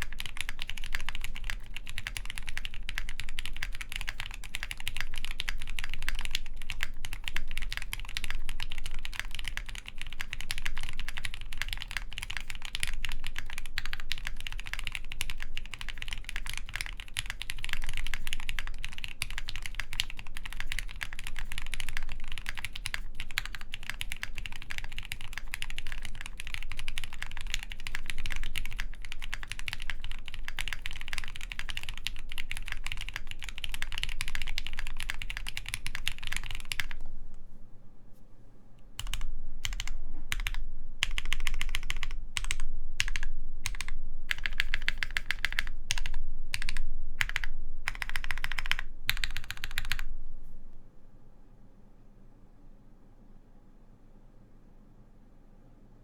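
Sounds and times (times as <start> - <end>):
mechanical keyboard typing: 0.0 - 37.0, 39.0 - 50.1.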